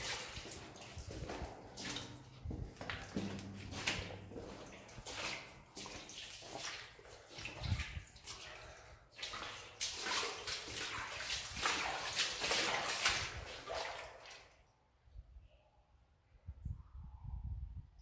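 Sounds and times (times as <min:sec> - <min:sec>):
footsteps splashing through water: 0:00.0 - 0:14.6.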